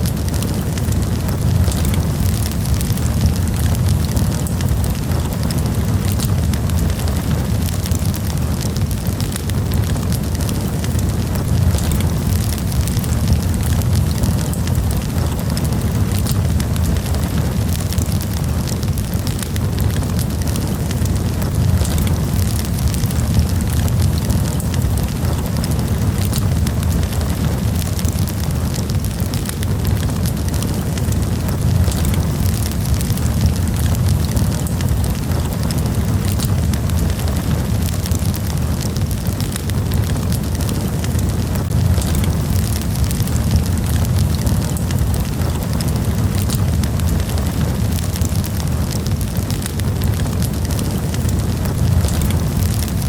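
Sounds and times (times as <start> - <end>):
campfire flames rumbling: 0.0 - 53.0
fire crackling and popping: 0.0 - 53.0.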